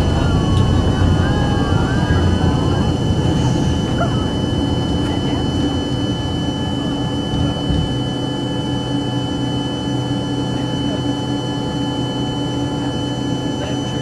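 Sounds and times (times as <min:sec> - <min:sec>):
jet engines in aircraft cabin: 0:00.0 - 0:14.0.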